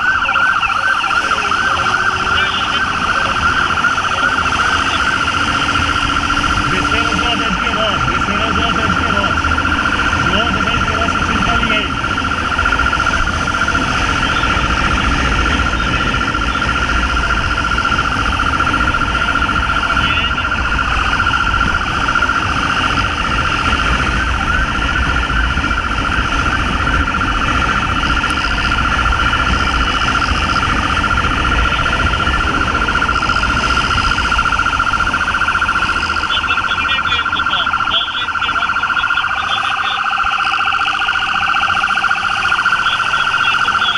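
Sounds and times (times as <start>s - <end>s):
fast-pulsing siren: 0.0s - 43.9s
motorcycle engine rumble: 0.0s - 43.9s
wind noise: 1.1s - 43.9s.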